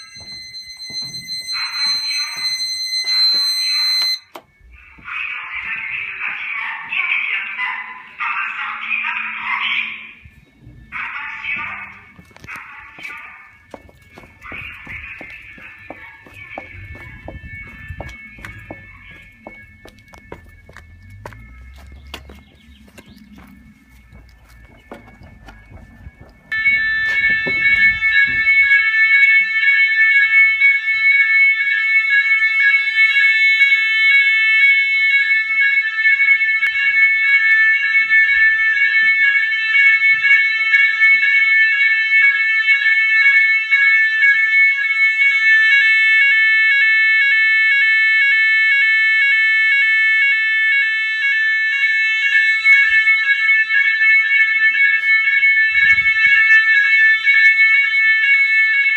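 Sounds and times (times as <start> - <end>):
shrill pulsing fire alarm: 0.0 - 58.9.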